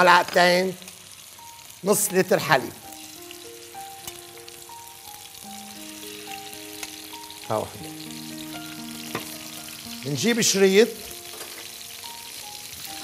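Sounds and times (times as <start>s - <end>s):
food sizzling in hot oil: 0.0s - 13.0s
soft background music: 0.0s - 13.0s.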